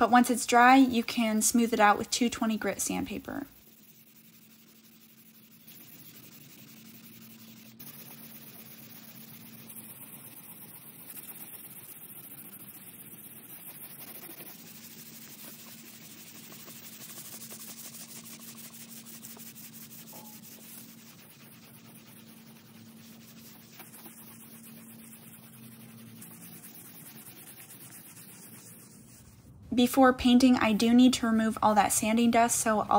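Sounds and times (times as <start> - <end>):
sanding wood by hand: 0.2 - 29.4.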